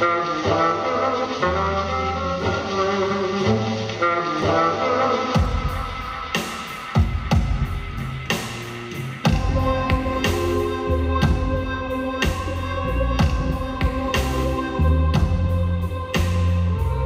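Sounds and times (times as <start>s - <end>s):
song with bass and drums: 0.0s - 17.0s.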